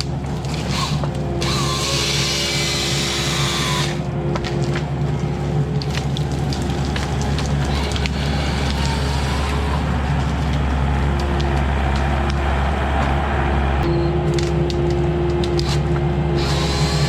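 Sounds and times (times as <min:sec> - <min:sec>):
hydraulic saw cutting tree: 0:00.0 - 0:13.3, 0:14.3 - 0:17.0
wood snapping and cracking: 0:00.0 - 0:13.3, 0:14.2 - 0:17.0
diesel engine running: 0:00.0 - 0:17.0.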